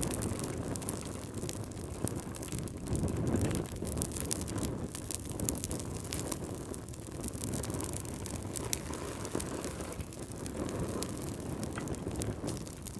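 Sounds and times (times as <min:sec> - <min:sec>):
wood fire crackling and popping: 0:00.0 - 0:12.9.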